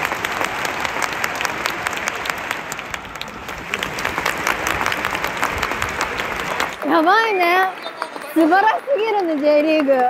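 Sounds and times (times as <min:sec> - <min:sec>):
stadium crowd applauding: 0:00.0 - 0:10.0.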